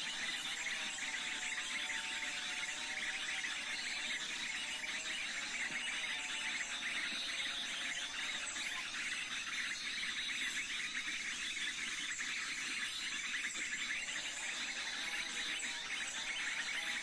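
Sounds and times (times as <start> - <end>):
high-pitched chirping and buzzing: 0.0 - 17.0.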